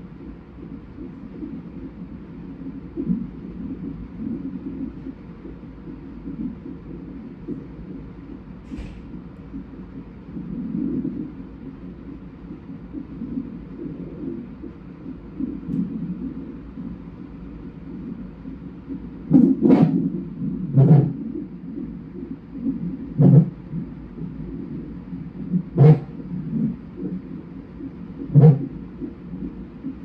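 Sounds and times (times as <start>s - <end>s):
pulsing whoosh of fetal heartbeat: 0.0s - 30.0s.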